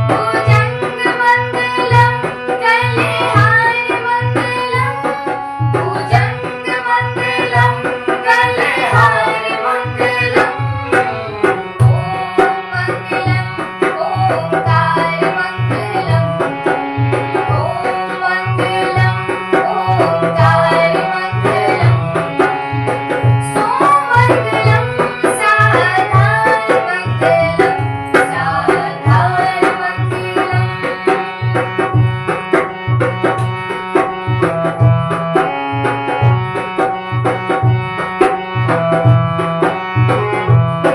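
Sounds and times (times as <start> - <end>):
hand drum beat: 0.0 - 40.9.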